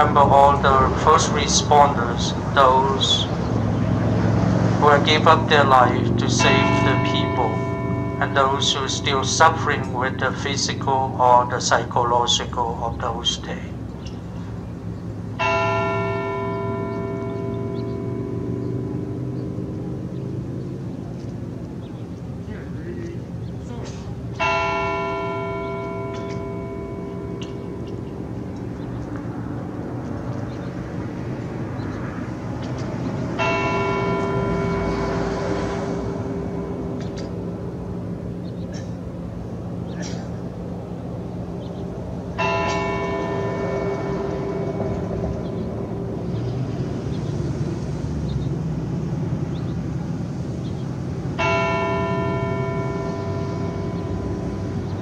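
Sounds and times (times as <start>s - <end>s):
bell tolling: 0.0s - 13.4s, 14.7s - 20.5s, 23.8s - 32.0s, 33.2s - 47.3s, 51.3s - 55.0s
low rumble of traffic: 0.0s - 55.0s.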